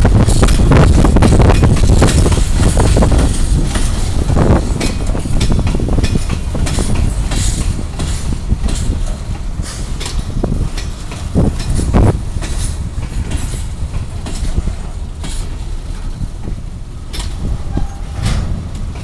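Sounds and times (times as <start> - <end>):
freight train rumbling: 0.0 - 19.0
wheels clacking over rail joints: 0.0 - 19.0.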